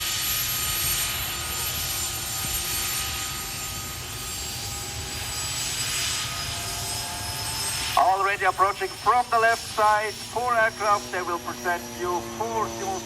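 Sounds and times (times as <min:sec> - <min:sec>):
aircraft turbine engines running: 0:00.0 - 0:13.0.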